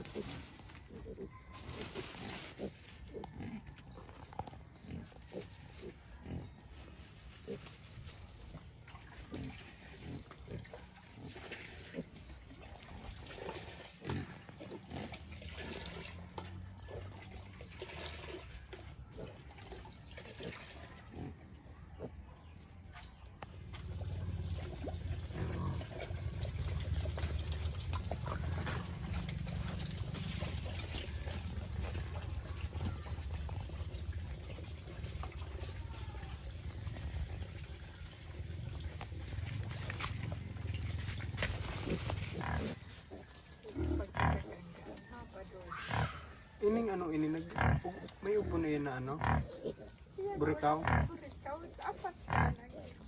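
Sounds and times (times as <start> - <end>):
pigs grunting: 0.0 - 22.6, 23.9 - 53.0.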